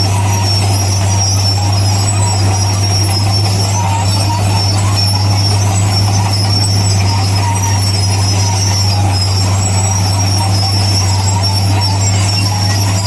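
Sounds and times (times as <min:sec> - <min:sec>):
diesel machinery engine drone: 0:00.0 - 0:13.0.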